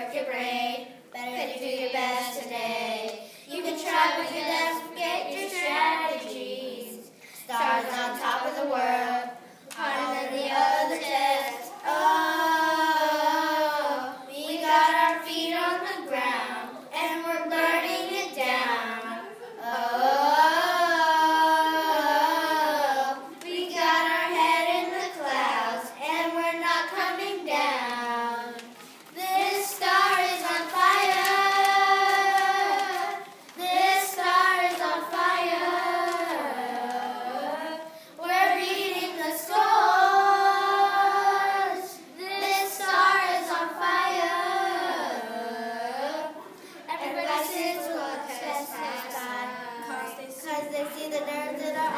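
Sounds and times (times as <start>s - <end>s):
children singing: 0.0s - 51.9s.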